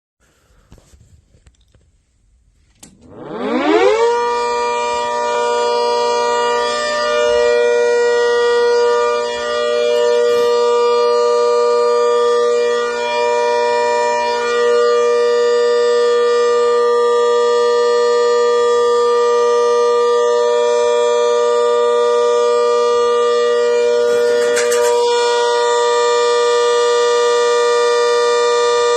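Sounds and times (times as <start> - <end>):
giant horn long steady tone: 2.9 - 28.9.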